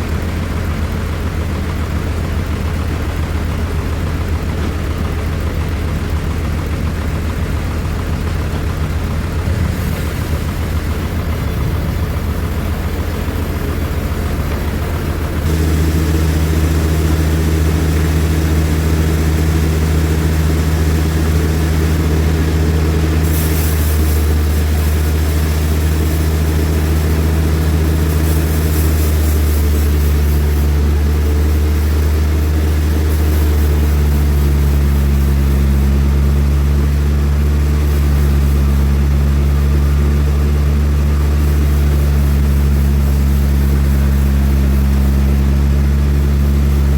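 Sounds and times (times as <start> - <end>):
heavy machinery engine humming: 0.0 - 46.9.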